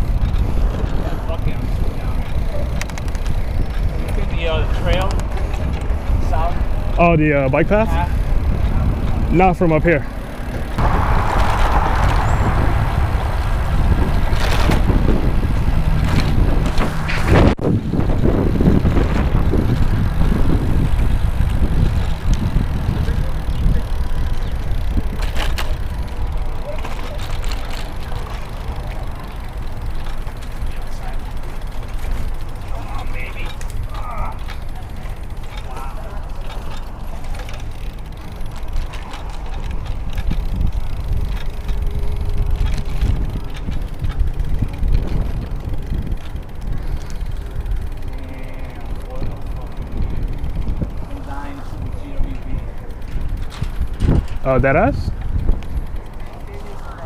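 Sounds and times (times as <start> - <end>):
small clicks and rattles: 0.0 - 10.8, 18.1 - 57.0
tyre and road rumble: 0.0 - 57.0
wind buffeting microphone: 0.0 - 57.0.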